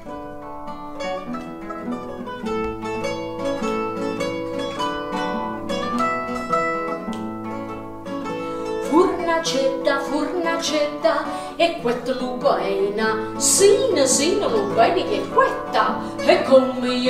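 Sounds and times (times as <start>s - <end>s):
acoustic guitar: 0.0s - 17.0s
mandolin: 0.0s - 17.0s.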